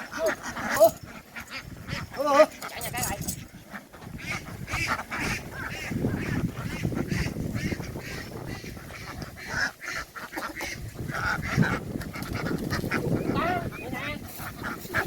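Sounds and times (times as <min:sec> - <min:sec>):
ducks quacking: 0:00.0 - 0:15.0
ducks shuffling and jostling: 0:00.0 - 0:15.0.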